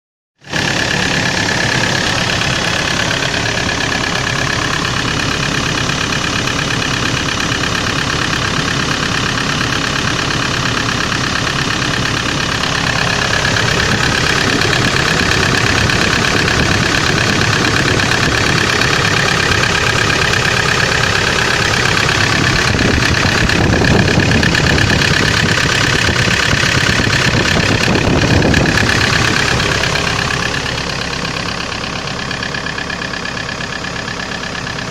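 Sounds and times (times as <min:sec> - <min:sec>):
car engine idling with knocking: 0:00.4 - 0:34.9.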